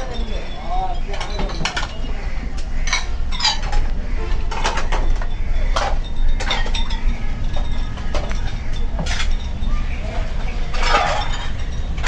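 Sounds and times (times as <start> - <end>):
dishes and utensils clattering: 0.0 - 2.2, 2.8 - 12.0
steady low rumble: 2.0 - 12.0.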